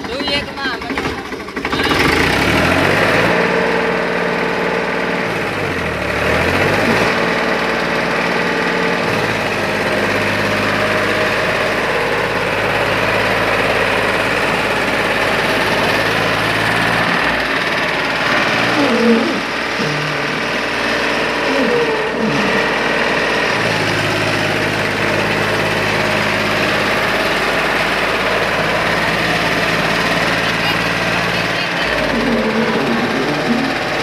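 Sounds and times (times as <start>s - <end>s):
tractor diesel engine straining: 0.0s - 34.0s.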